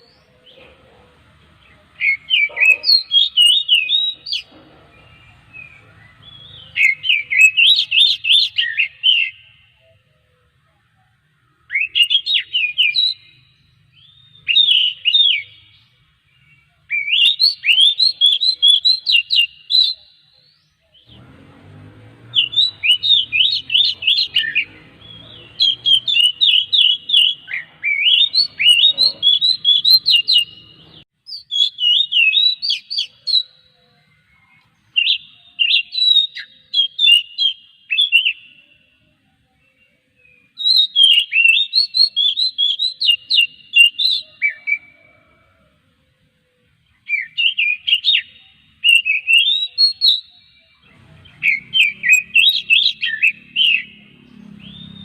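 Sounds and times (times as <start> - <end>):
bird singing whistled notes: 1.8 - 10.2, 11.5 - 21.4, 22.1 - 39.0, 39.6 - 45.4, 46.8 - 55.0.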